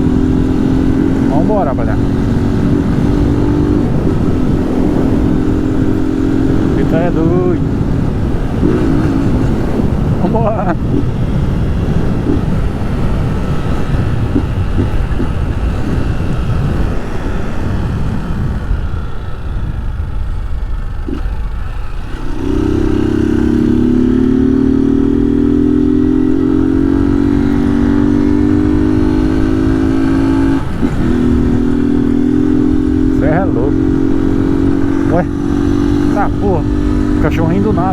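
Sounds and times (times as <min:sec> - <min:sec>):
motorcycle engine rumbling: 0:00.0 - 0:37.9
wind on microphone: 0:00.0 - 0:37.9.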